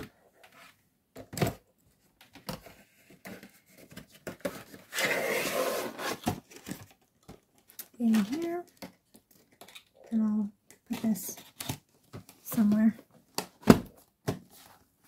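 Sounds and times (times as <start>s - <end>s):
rustling and sliding objects: 1.9s - 10.2s, 10.9s - 15.0s.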